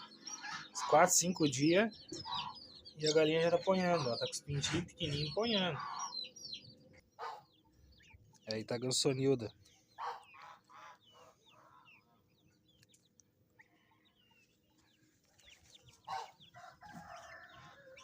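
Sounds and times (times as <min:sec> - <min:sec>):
hen clucking: 0:00.0 - 0:12.9, 0:13.5 - 0:18.0
chicks peeping: 0:00.0 - 0:18.0.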